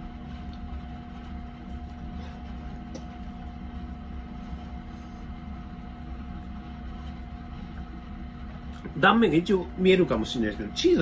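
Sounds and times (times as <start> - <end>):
hum with two constant tones: 0.0 - 11.0.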